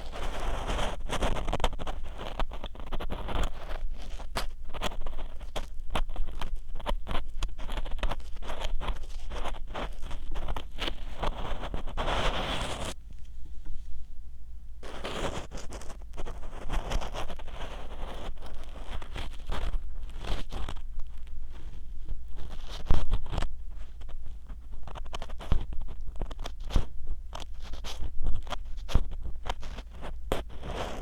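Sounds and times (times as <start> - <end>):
tool scratching in microphone ear: 0.0 - 13.0, 14.8 - 31.0.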